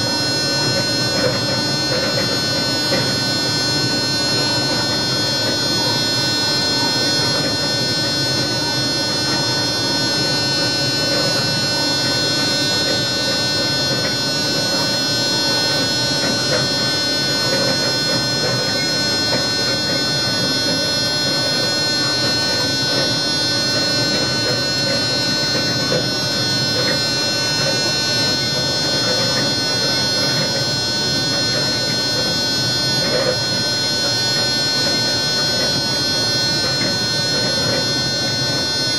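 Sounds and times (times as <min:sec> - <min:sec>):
electrical whine and hum: 0:00.0 - 0:38.9.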